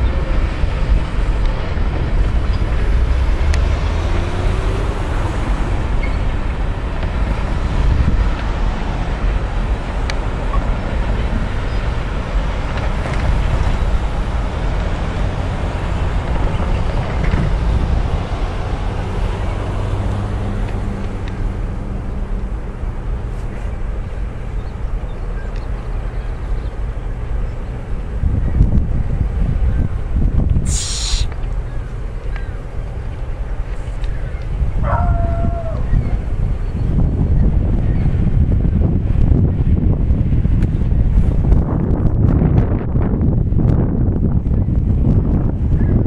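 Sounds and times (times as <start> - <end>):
freight train rumbling past: 0.0 - 45.8.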